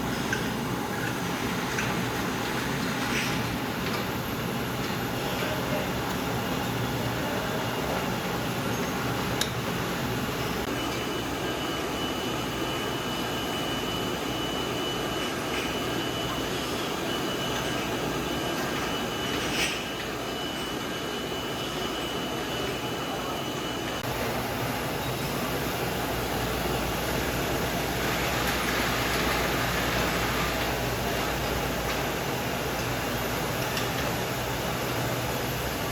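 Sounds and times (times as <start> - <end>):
production line machinery running: 0.0 - 35.9
thin high machine whine: 0.0 - 35.9.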